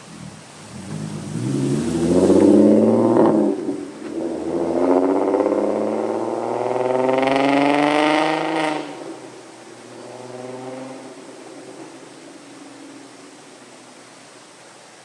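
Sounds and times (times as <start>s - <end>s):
car exhaust under hard throttle: 0.3s - 13.1s.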